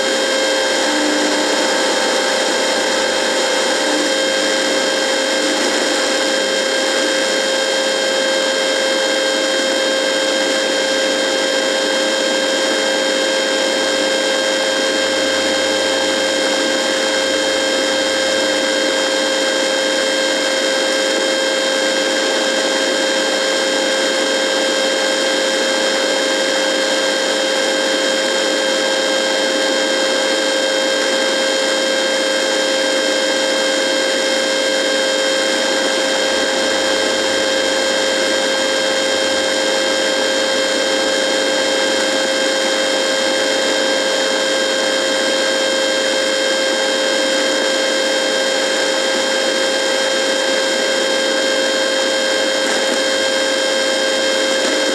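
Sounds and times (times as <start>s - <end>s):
radio electrical buzz and hum: 0.0s - 54.9s.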